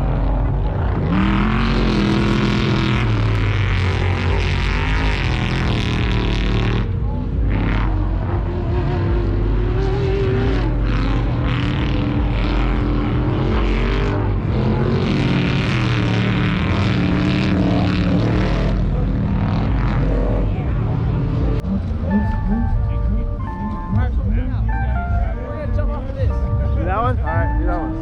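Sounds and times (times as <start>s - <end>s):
engines revving hard: 0.0s - 28.0s.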